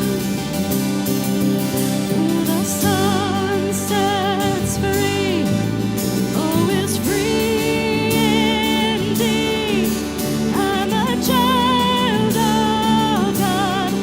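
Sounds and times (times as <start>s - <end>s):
keyboard and guitar chords: 0.0s - 14.0s.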